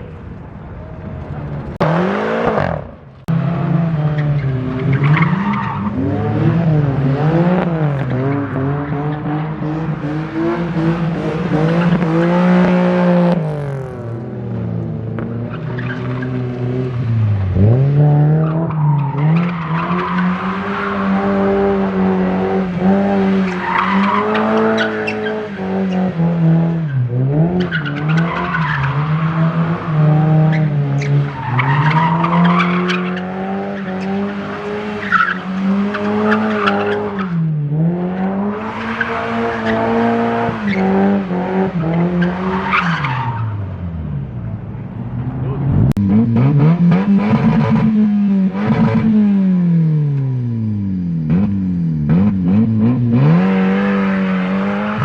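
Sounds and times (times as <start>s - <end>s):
car engine revving: 1.2s - 55.0s.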